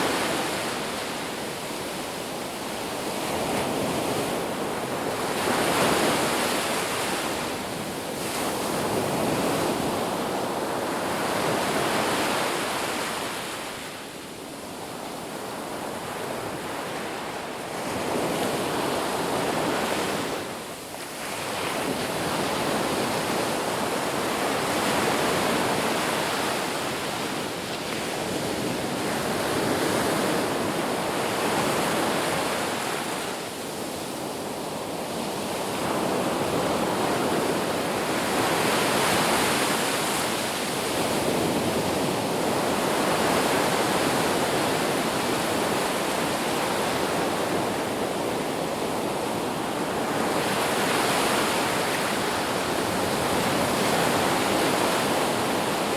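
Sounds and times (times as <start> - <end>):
ocean surf washing onto beach: 0.0 - 55.9.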